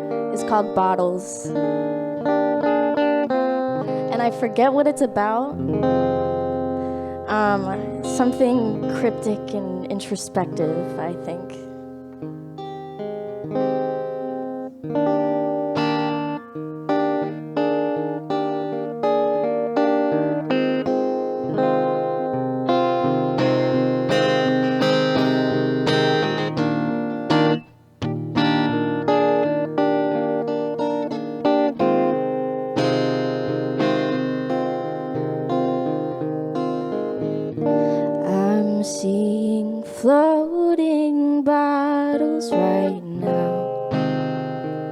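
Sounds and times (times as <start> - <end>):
solo guitar playing: 0.0 - 44.9.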